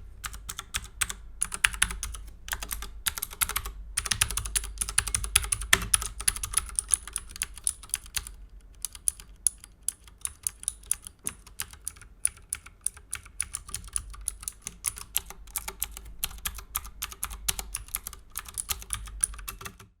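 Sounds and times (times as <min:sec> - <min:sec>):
clicky mechanical keyboard typing: 0:00.2 - 0:20.0.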